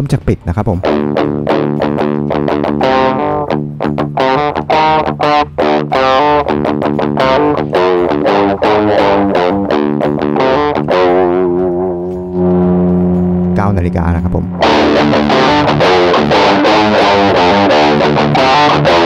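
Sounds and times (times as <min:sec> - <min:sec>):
distorted electric guitar: 0:00.8 - 0:19.0.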